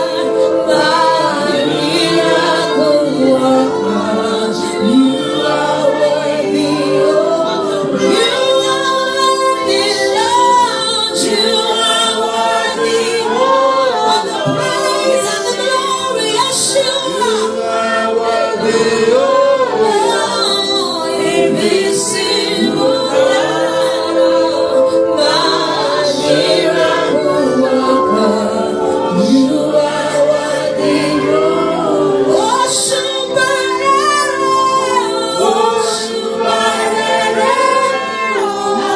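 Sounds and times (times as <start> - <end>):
gospel choir singing: 0.0 - 38.9
held chords: 0.0 - 38.9.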